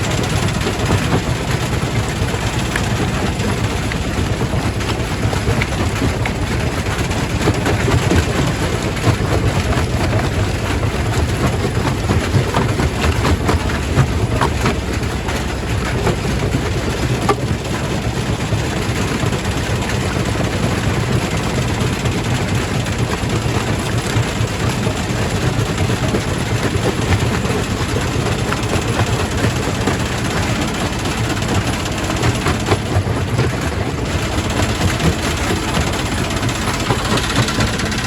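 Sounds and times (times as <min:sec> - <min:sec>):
rock crusher rumbling: 0:00.0 - 0:38.0.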